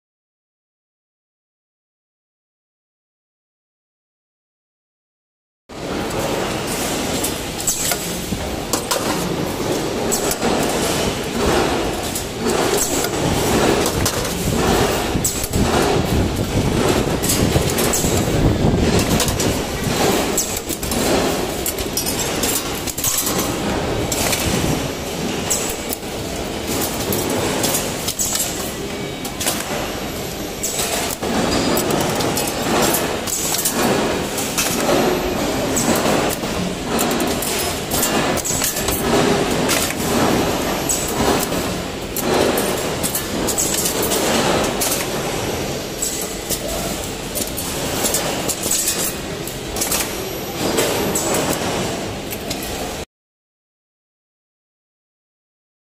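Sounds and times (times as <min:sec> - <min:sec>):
machine mechanical clatter: 0:05.8 - 0:53.1.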